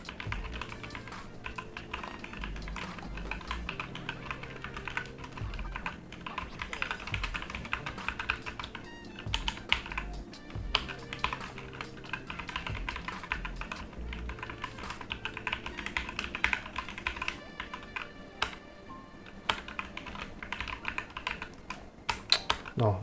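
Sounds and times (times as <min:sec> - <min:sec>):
fast typing on mechanical keyboard: 0:00.0 - 0:18.6, 0:19.3 - 0:22.8.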